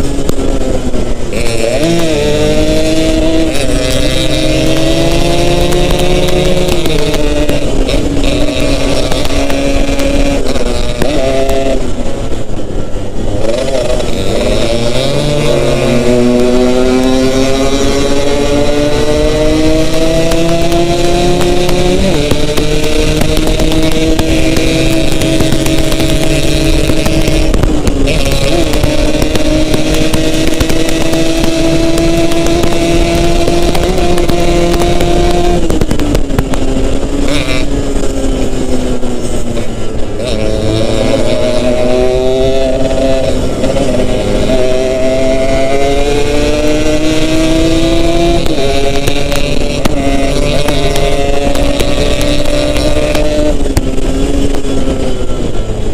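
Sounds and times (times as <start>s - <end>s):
motorcycle engine running: 0.0s - 55.9s
wind and road rush: 0.0s - 55.9s.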